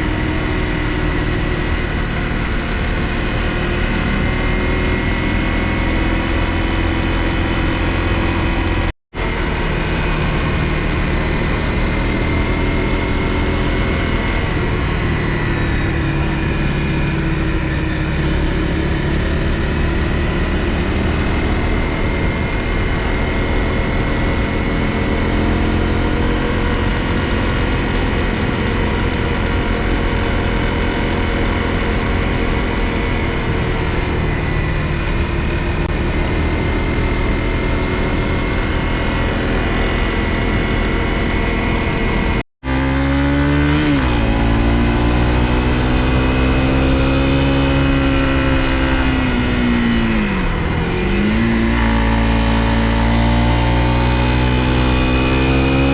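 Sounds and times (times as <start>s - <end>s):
heavy low rumble: 0.0s - 42.4s, 44.2s - 55.4s
motorcycle engine running: 0.0s - 55.9s.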